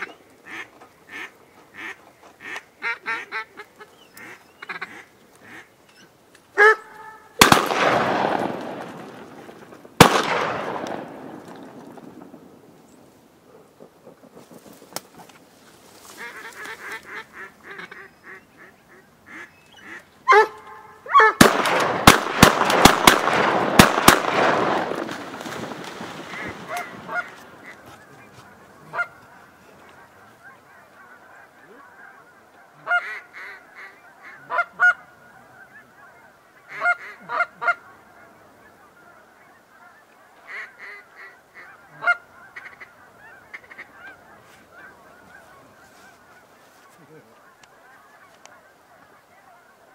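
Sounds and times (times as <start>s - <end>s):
geese honking: 0.0s - 5.8s, 6.5s - 12.2s, 13.8s - 49.9s.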